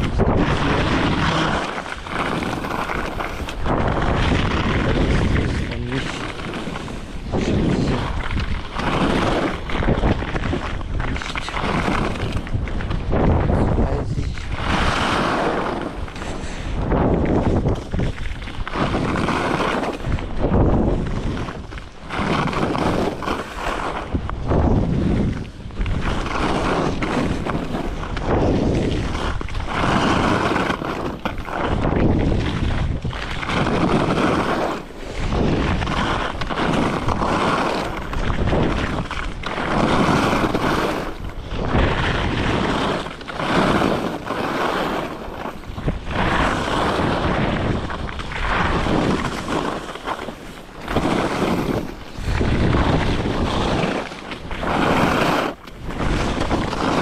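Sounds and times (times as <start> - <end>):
skis scraping on snow: 0.0 - 57.0
wind rushing over microphone: 0.0 - 57.0.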